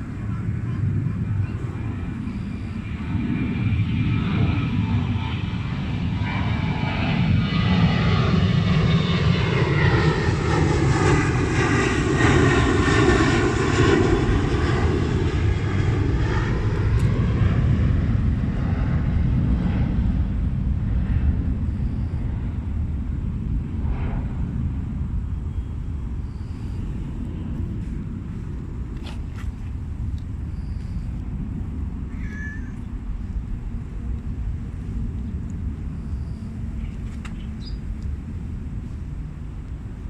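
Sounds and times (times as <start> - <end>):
aircraft engine drone: 0.0 - 40.0.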